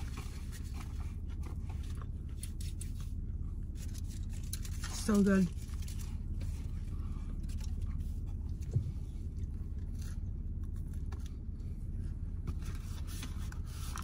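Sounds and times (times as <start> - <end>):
low rumble inside car: 0.0 - 14.0.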